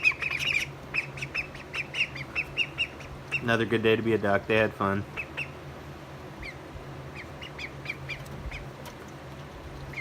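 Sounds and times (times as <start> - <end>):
ducklings peeping: 0.0 - 10.0
low steady hum: 0.0 - 10.0.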